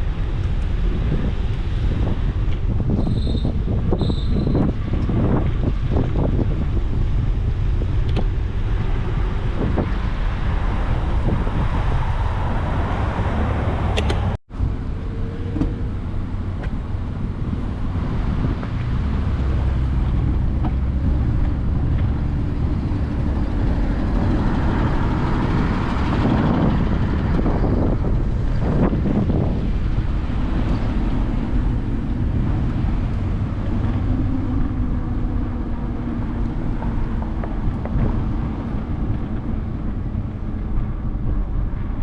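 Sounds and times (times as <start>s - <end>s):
car traffic passing: 0.0s - 42.0s
wind rumbling on microphone: 0.0s - 42.0s.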